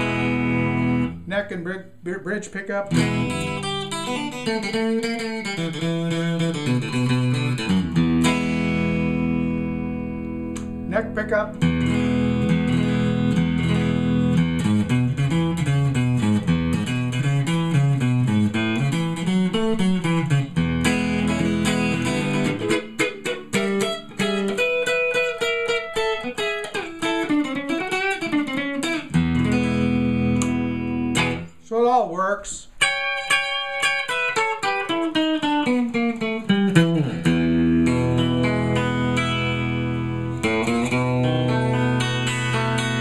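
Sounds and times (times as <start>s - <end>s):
electric guitar playing: 0.0s - 31.6s, 32.6s - 43.0s.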